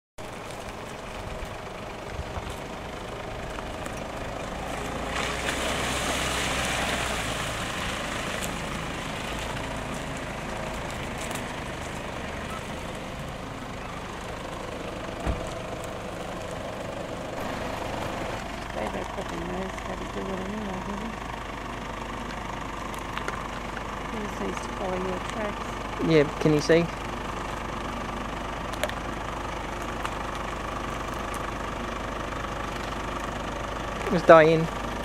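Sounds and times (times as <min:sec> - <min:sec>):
vehicle engines driving slowly: 0:00.2 - 0:35.0.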